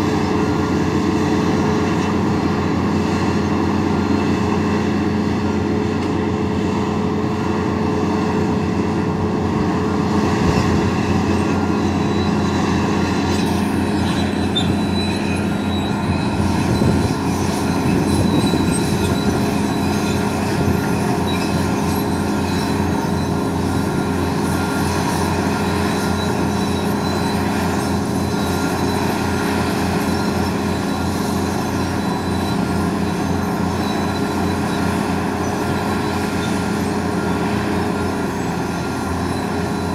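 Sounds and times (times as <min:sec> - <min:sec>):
excavator diesel engines under load: 0:00.0 - 0:39.9
hydraulic whine: 0:00.0 - 0:39.9.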